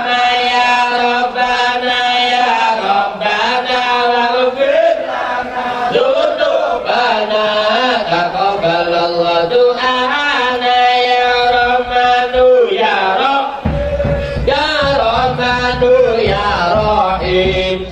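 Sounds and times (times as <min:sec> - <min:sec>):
person chanting melodically: 0:00.0 - 0:17.9.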